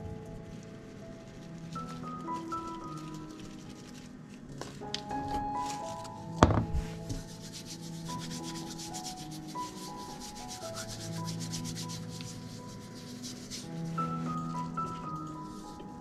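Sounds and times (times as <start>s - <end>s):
hands scrubbing a lemon: 0.8s - 4.6s, 5.6s - 16.0s.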